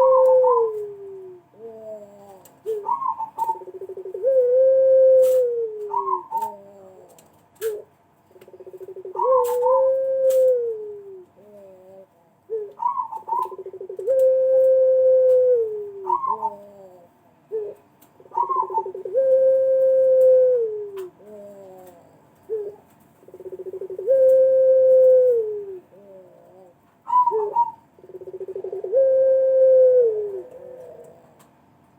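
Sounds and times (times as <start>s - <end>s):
dove cooing: 0.0s - 31.6s.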